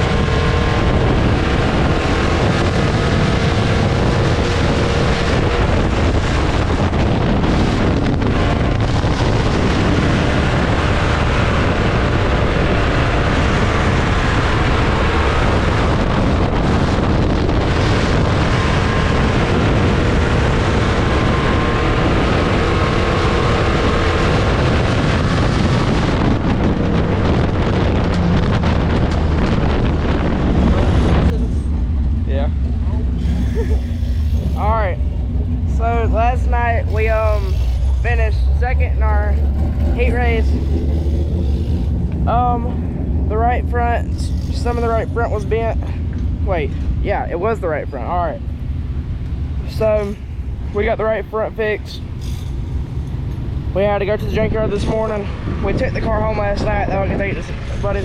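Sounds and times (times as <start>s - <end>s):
race car engines: 0.0s - 58.0s
wind buffeting microphone: 0.0s - 58.0s.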